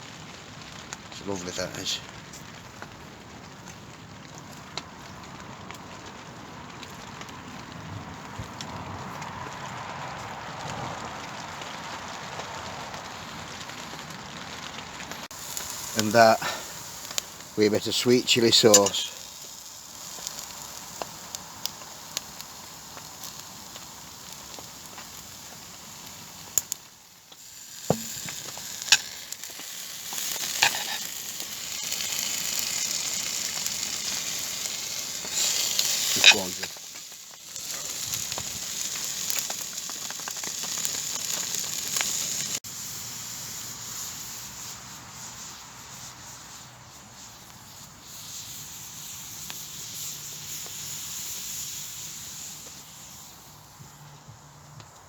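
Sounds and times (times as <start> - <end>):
meat sizzling in a pan: 0.0 - 54.5
sharp pops and crackles: 0.0 - 55.0.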